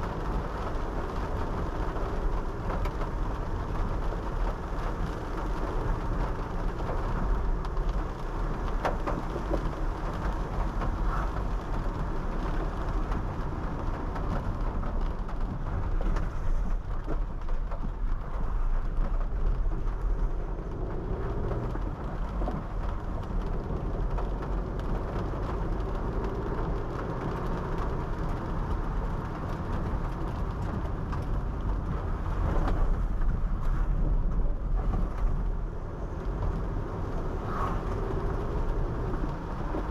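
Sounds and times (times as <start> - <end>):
low road noise: 0.0 - 39.9
rain: 0.0 - 39.9
wet tyre noise: 0.0 - 39.9.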